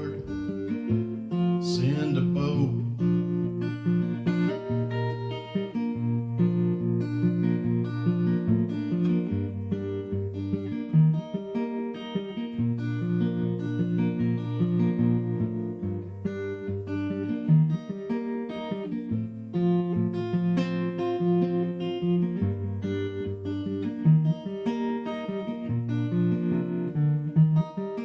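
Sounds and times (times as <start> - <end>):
acoustic guitar picking and strumming: 0.0 - 28.0.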